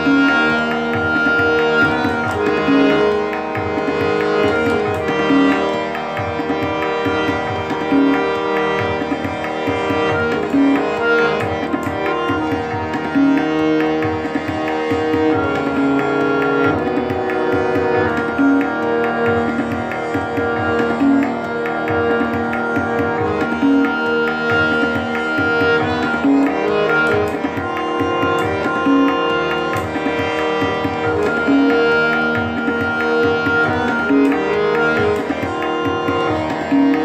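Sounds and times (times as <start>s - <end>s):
long held melodic notes: 0.0s - 37.0s.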